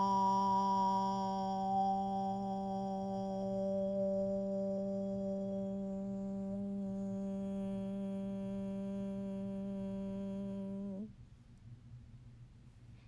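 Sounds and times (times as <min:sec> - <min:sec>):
person humming low note: 0:00.0 - 0:11.1.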